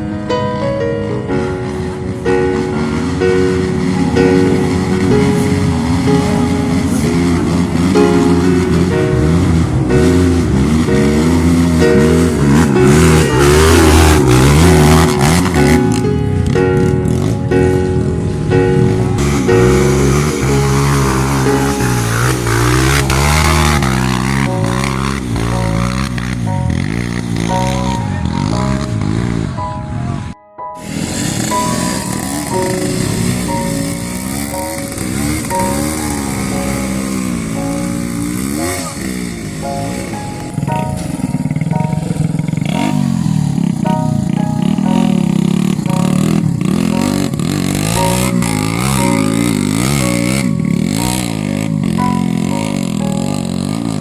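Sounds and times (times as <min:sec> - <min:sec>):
motorcycle engine revving: 0:01.3 - 0:54.0.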